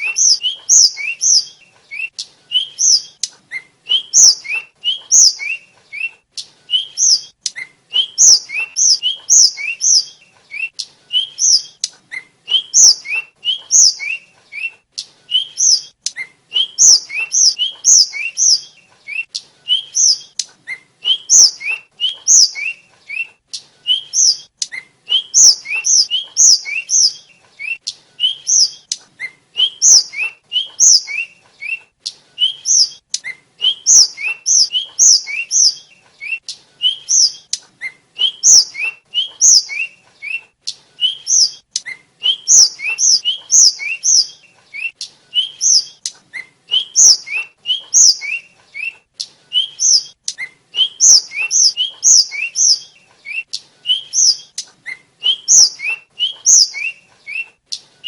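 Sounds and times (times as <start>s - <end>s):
small bird singing: 0.0s - 58.0s.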